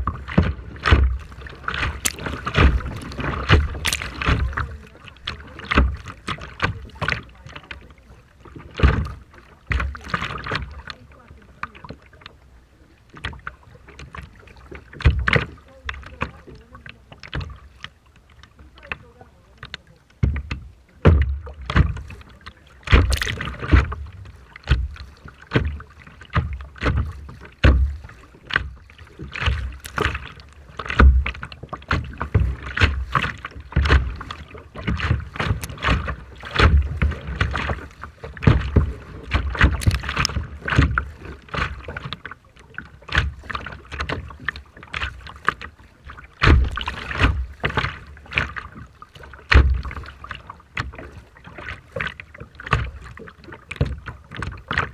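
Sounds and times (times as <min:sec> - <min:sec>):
sea water splashing: 0:00.0 - 0:54.9.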